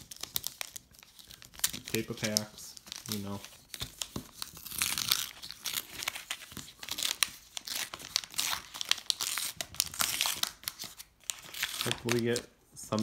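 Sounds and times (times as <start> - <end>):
foil wrapper tearing and crinkling: 0.0 - 12.4.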